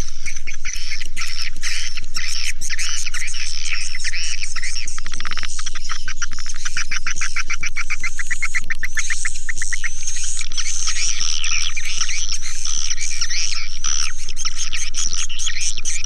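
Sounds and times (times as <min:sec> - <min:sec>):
clicking chirps: 0:00.0 - 0:16.0.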